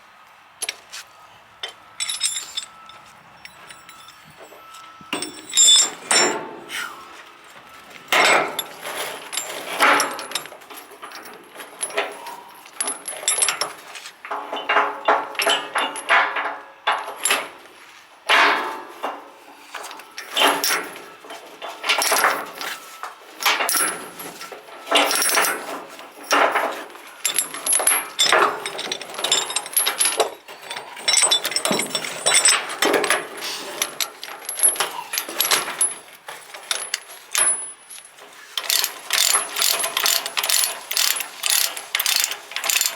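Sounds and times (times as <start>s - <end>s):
steel chains clinking and rattling: 1.6s - 6.7s, 7.4s - 17.6s, 20.2s - 42.9s.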